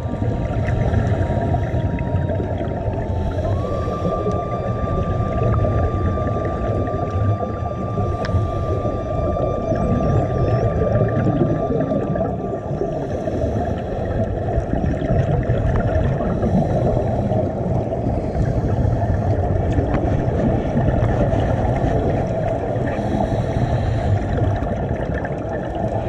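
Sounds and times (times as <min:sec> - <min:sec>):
underwater regulator bubbles: 0:00.0 - 0:26.0.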